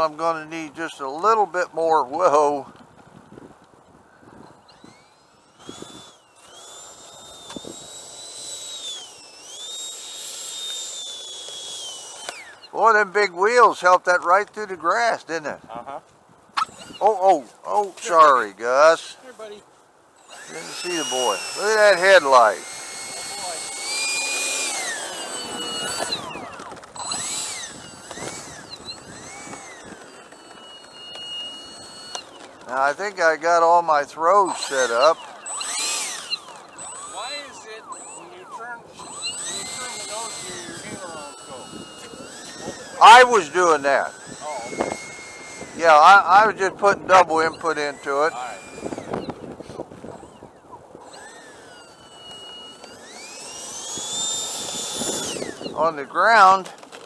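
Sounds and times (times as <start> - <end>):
electric ducted fan whine: 0.0 - 57.0.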